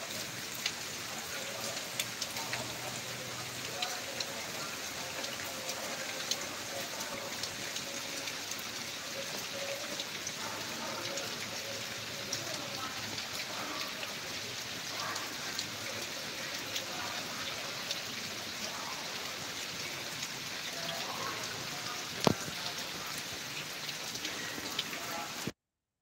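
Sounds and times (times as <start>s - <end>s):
steady rain: 0.0s - 25.6s
drip ticks: 1.5s - 25.5s.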